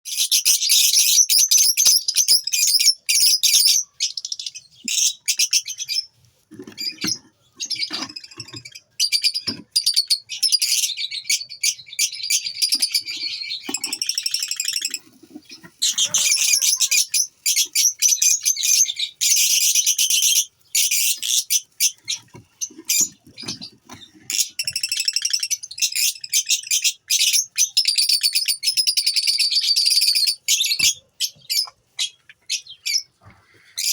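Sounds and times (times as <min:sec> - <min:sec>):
lovebirds chattering: 0:00.1 - 0:33.9.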